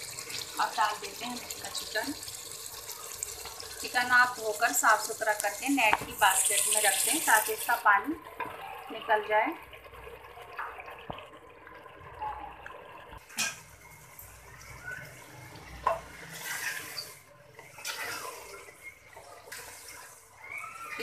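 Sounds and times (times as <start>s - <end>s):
chicken sizzling in hot oil: 0.0s - 12.6s, 13.2s - 21.0s.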